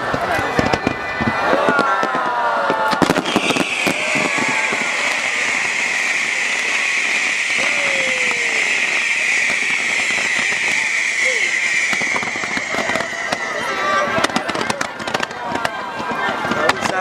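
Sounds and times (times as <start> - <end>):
fireworks crackling pops: 0.0 - 17.0
fireworks hissing: 0.2 - 17.0.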